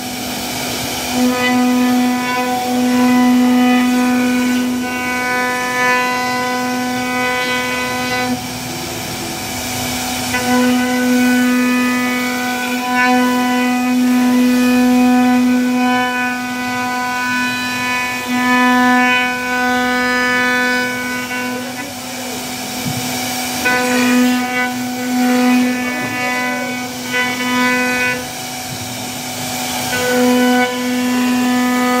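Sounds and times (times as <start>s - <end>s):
hiss of wood cutting: 0.0s - 32.0s
router spindle whining: 0.0s - 32.0s.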